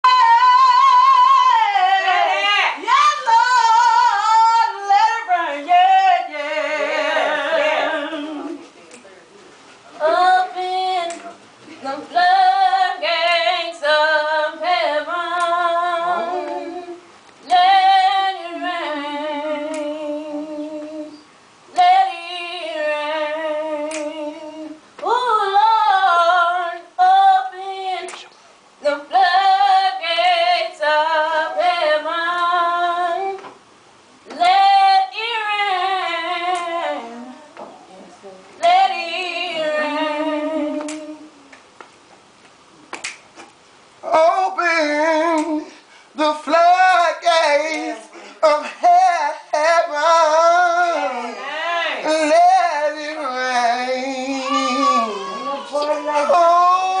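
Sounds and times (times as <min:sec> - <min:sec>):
woman singing unaccompanied: 0:00.0 - 0:08.8, 0:10.0 - 0:33.6, 0:34.2 - 0:41.6, 0:44.0 - 0:57.0.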